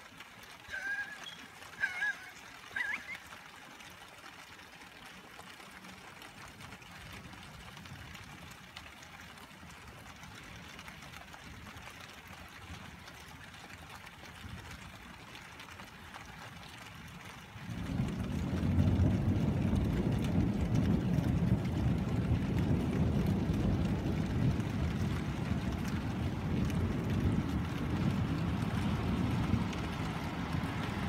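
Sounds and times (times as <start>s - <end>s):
steady rain: 0.0s - 31.0s
water trickling and pouring: 0.0s - 31.0s.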